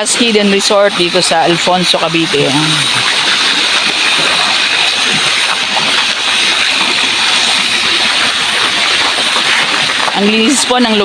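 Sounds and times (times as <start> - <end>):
water flowing and splashing: 0.0 - 11.0.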